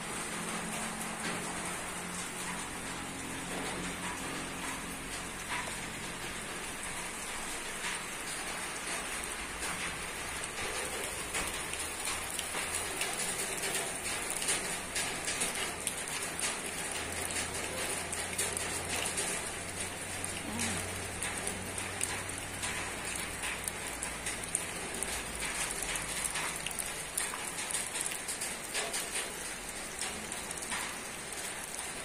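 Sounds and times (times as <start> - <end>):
rain pattering on a roof: 0.0 - 32.0.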